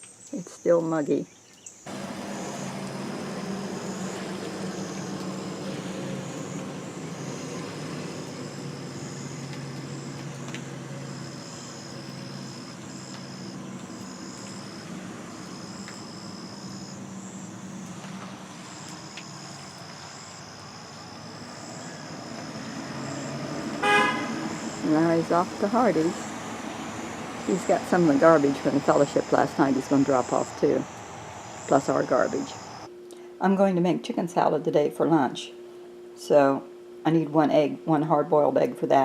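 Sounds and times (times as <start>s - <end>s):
insects trilling: 0.0s - 33.2s.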